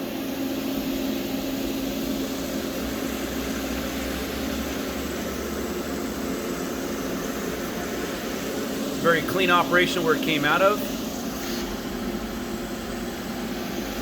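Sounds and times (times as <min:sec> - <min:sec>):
machine shop hum: 0:00.0 - 0:14.0.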